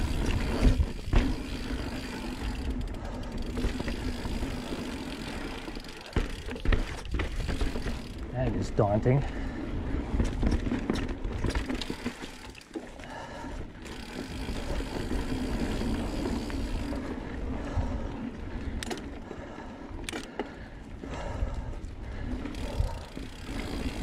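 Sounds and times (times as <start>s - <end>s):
bike rattling: 0.0s - 24.0s
bike tyres rolling on dirt: 0.0s - 24.0s.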